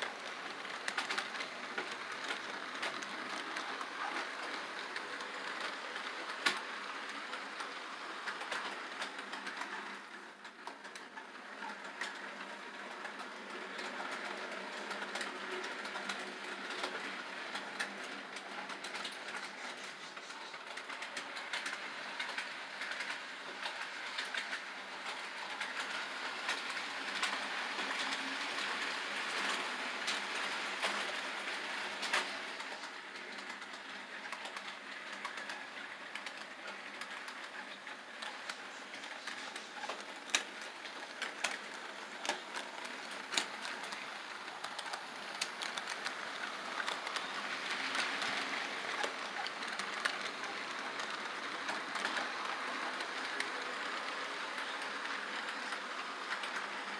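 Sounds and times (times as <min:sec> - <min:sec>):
wheels clicking over rail joints: 0:00.0 - 0:56.9.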